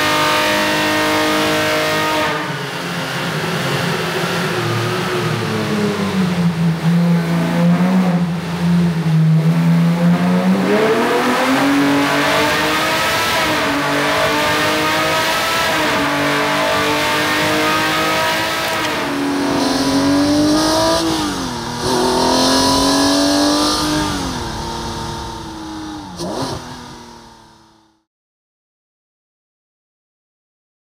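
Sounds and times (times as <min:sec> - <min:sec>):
engine revving: 0:00.0 - 0:28.0.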